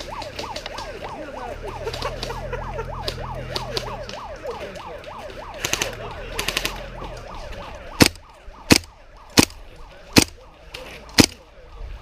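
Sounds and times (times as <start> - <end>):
siren wailing up and down: 0.0 - 11.1.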